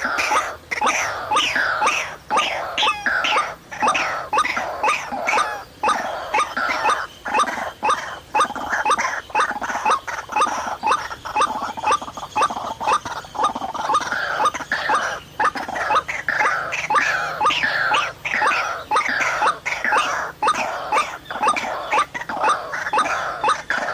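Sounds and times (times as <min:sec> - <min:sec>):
waterhen harsh calls: 0:00.0 - 0:23.9.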